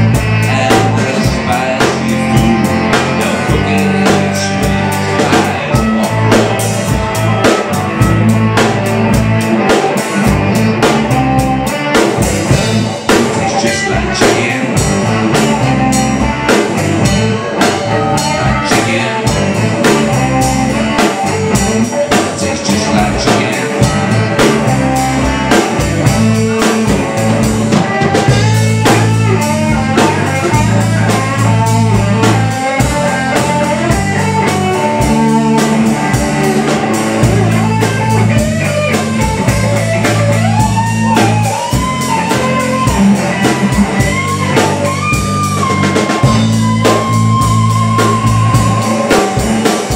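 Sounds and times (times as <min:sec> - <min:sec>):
bending guitar lead notes: 0:00.0 - 0:49.9
live blues band playing: 0:00.0 - 0:49.9.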